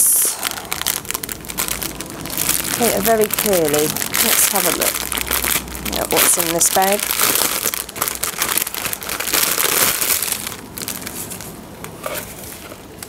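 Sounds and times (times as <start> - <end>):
plastic crinkling and rustling: 0.4 - 13.0.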